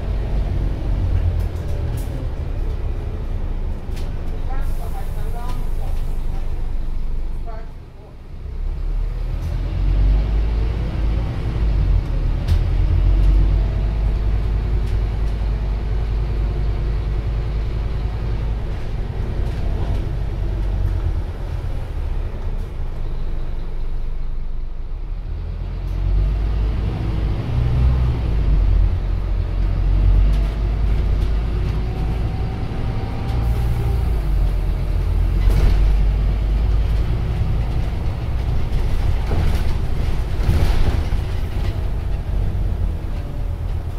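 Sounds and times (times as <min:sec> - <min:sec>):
bus diesel engine pulling: 0:00.0 - 0:43.9.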